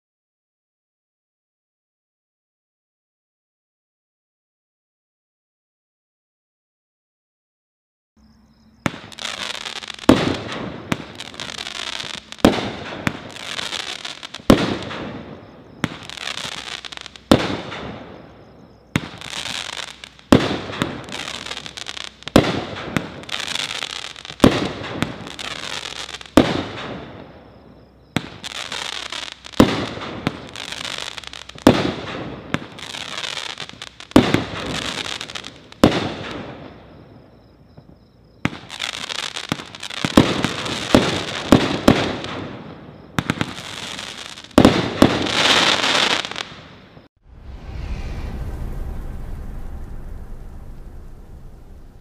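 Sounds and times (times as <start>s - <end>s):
firework shots with hiss: 8.9s - 52.0s.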